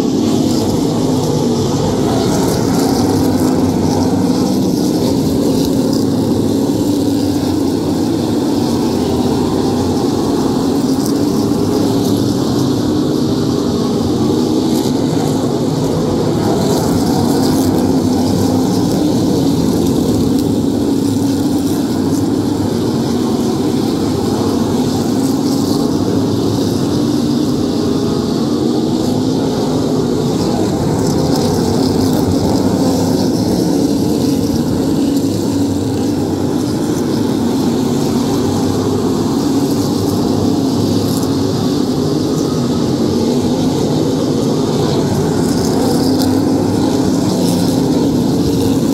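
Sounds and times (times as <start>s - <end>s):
race car engines: 0.0s - 48.9s.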